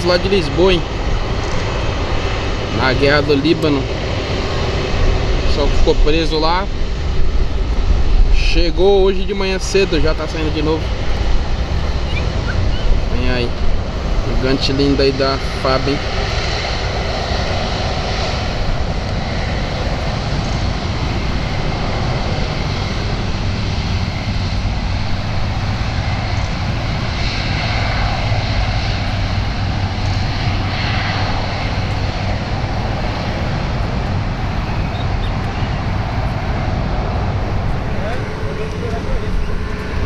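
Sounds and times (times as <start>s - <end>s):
jet engines at takeoff thrust: 0.0s - 40.0s.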